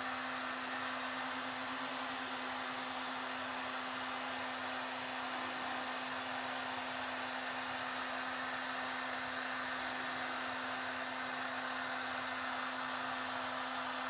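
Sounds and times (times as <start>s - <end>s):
heat gun blowing: 0.0s - 14.0s.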